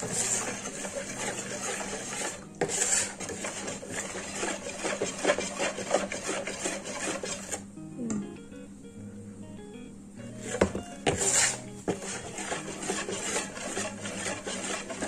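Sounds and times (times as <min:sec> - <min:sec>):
whisk beating batter in bowl: 0:00.0 - 0:07.6, 0:10.4 - 0:15.0.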